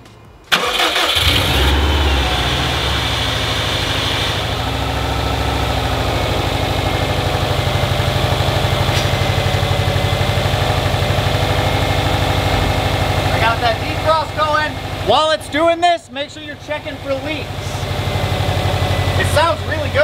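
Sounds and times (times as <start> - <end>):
car engine idling: 0.5 - 20.0.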